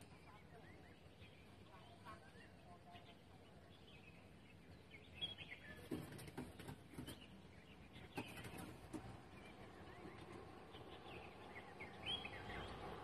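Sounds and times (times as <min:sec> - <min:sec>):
bird chirp: 0:00.0 - 0:13.0
faint outdoor background: 0:00.0 - 0:13.0.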